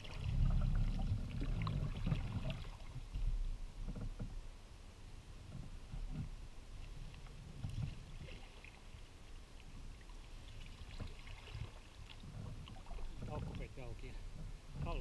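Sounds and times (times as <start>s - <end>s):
paddle splashes and drips: 0.0s - 3.4s, 6.0s - 15.0s.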